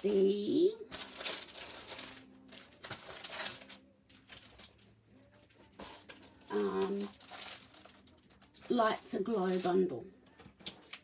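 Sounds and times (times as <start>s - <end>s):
paper packs rustling and shuffling: 0.0s - 11.0s.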